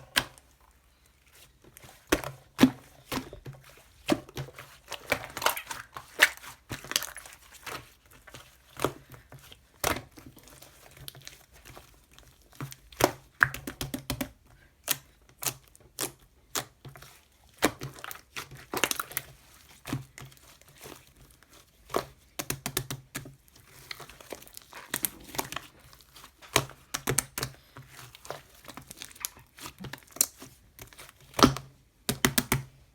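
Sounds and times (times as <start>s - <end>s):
sticky slime crackles and pops: 0.0s - 32.8s.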